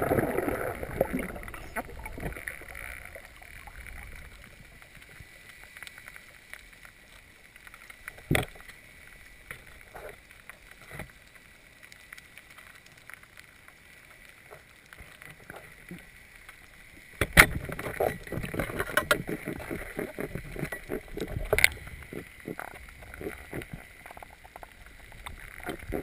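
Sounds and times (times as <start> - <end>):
low underwater hiss: 0.0 - 26.0
faint clicks: 1.0 - 26.0.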